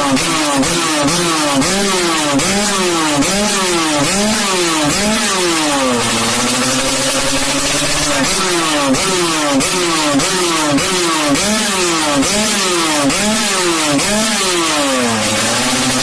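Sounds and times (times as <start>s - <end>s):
two-stroke motorbike engine revving: 0.0s - 16.0s.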